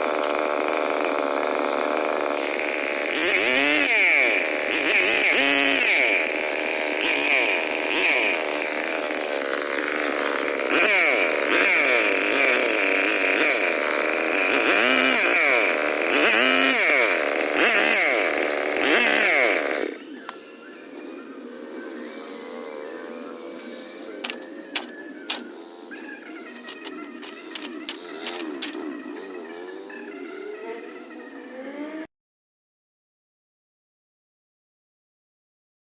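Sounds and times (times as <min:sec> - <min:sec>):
chainsaw revving: 0:00.0 - 0:20.1, 0:21.6 - 0:29.9, 0:31.5 - 0:32.1.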